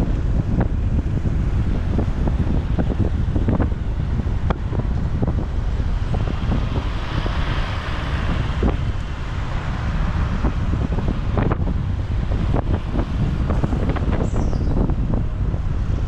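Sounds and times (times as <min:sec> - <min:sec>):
motorbike rumble: 0:00.0 - 0:16.0
wind buffeting microphone: 0:00.0 - 0:16.0
vehicle passing close: 0:01.5 - 0:16.0.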